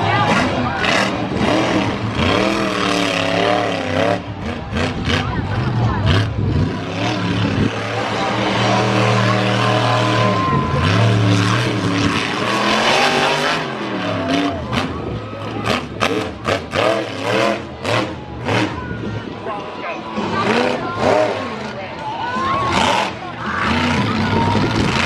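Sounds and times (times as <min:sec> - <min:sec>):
truck engine revving: 0:00.0 - 0:19.4, 0:20.0 - 0:25.0.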